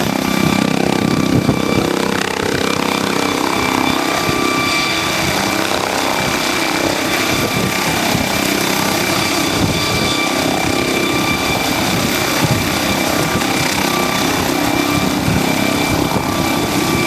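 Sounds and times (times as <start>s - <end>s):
helicopter rotor beating: 0.0s - 17.0s
turbine whine: 0.0s - 17.0s.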